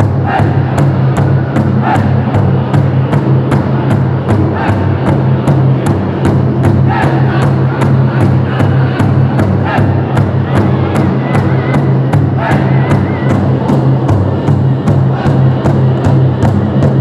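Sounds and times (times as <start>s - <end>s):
large drum steady beat: 0.0s - 17.0s.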